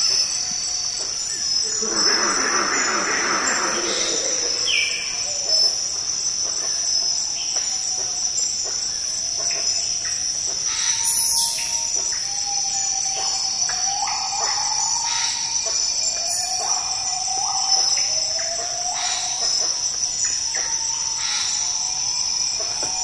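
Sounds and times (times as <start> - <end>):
bird calls and whistles: 0.0 - 23.0
insects droning: 0.0 - 23.0.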